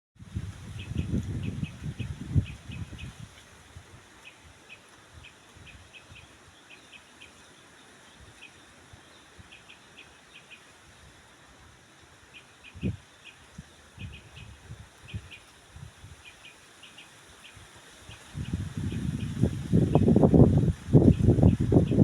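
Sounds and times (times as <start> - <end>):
soft outdoor hiss: 0.2 - 22.0.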